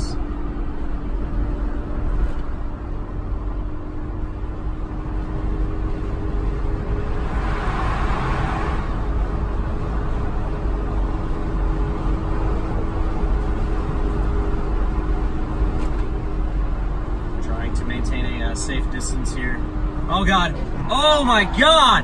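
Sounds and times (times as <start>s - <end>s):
car tyre and engine drone: 0.0s - 22.0s.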